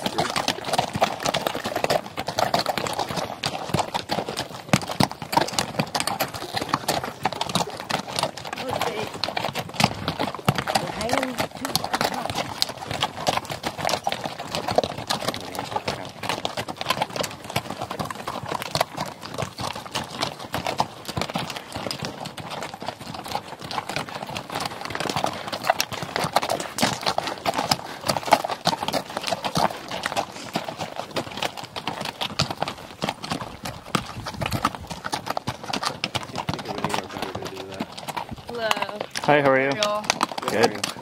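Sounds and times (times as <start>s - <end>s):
mule hooves clip-clopping on rocky trail: 0.0s - 41.0s.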